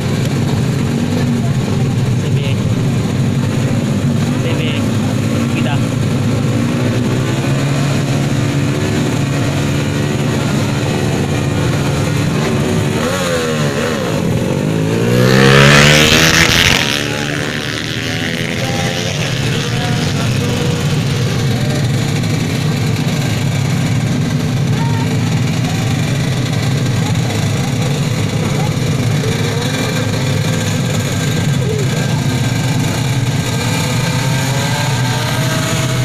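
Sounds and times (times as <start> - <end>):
motorcycle engines running: 0.0 - 36.0.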